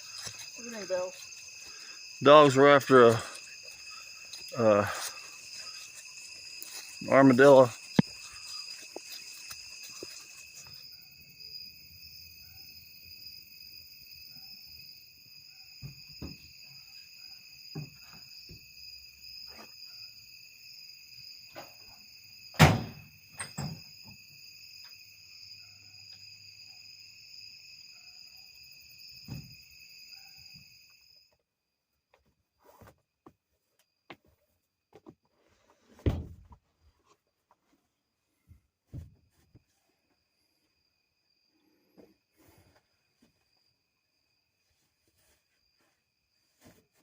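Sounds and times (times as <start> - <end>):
night insects trilling: 0.0 - 33.0, 39.6 - 47.0.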